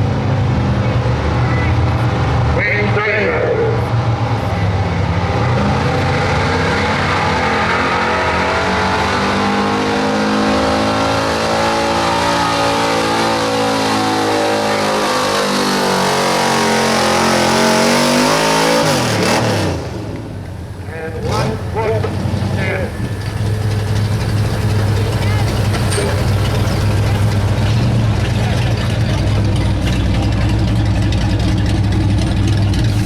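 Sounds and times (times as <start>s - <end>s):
pickup engine at high revs: 0.0s - 33.0s.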